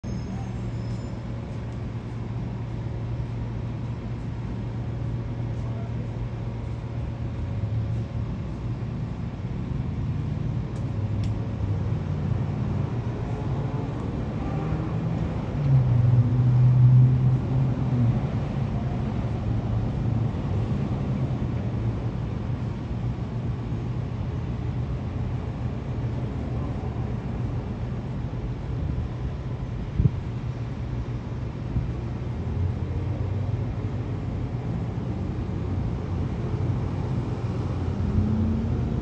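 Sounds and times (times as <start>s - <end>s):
traffic engine hum: 0.0s - 39.0s.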